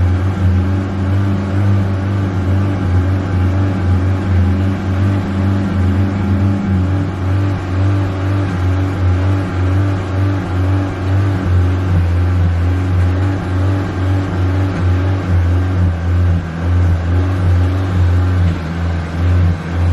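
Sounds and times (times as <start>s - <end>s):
car engine running at low revs: 0.0s - 19.9s.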